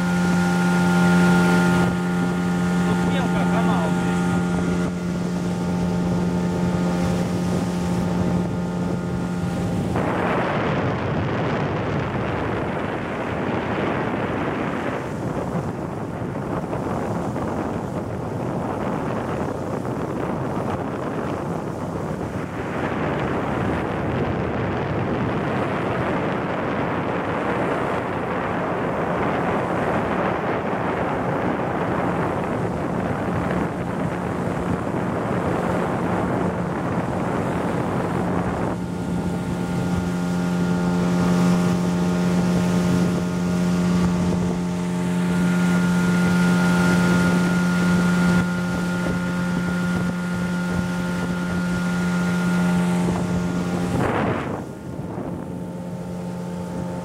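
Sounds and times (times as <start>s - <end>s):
motorboat engine drone: 0.0s - 57.0s
rushing water: 0.0s - 57.0s
wind buffeting microphone: 0.0s - 57.0s.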